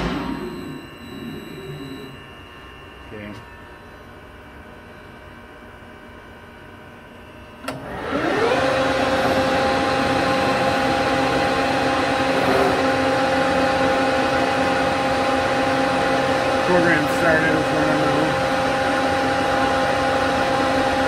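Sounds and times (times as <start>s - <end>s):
lathe spindle whine: 0.0s - 4.6s, 7.7s - 21.0s.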